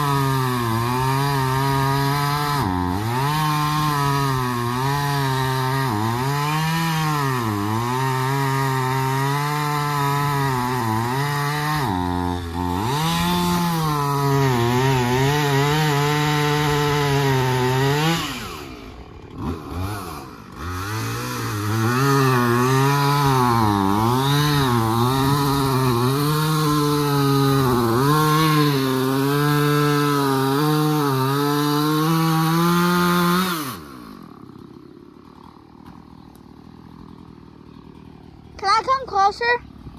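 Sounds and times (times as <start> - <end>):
chainsaw cutting through tree: 0.0 - 39.9.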